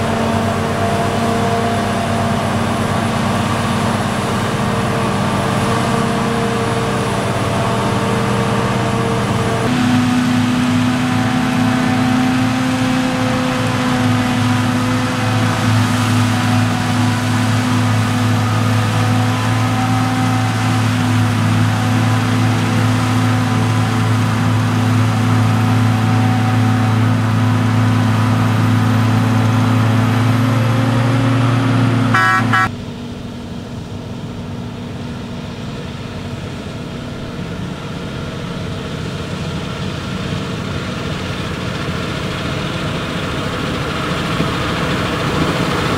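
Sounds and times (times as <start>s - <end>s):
diesel machinery droning: 0.0s - 45.9s.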